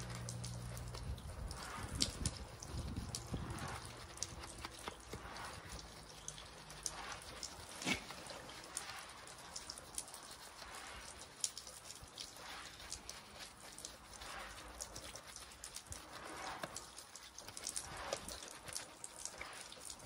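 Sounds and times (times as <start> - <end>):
brush swishing through soap: 0.0 - 20.0.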